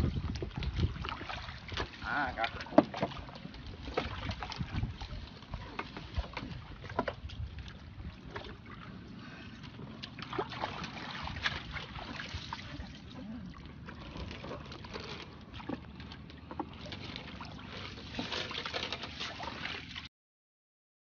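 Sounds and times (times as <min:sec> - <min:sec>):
water splashing: 0:00.0 - 0:20.1.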